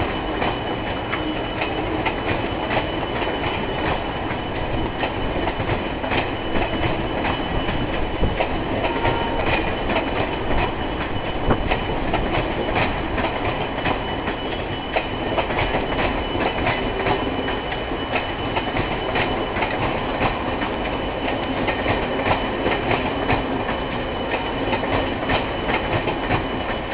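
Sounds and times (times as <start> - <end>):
train wheels clicking over rail joints: 0.0 - 26.9.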